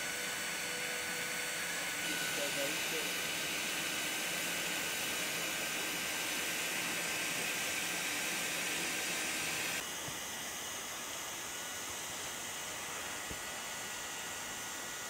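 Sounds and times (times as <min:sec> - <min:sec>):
hot air welder blowing: 0:00.0 - 0:15.0.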